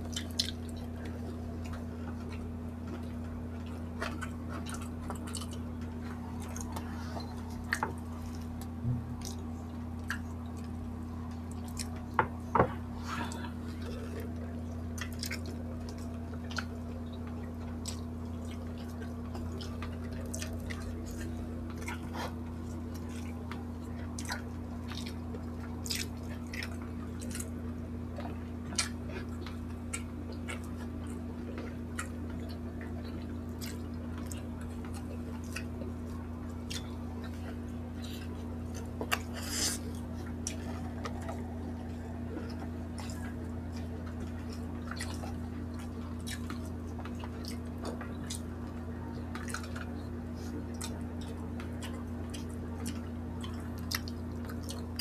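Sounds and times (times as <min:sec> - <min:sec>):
steady low hum: 0:00.0 - 0:55.0
wet chewing and lip smacking: 0:00.0 - 0:55.0.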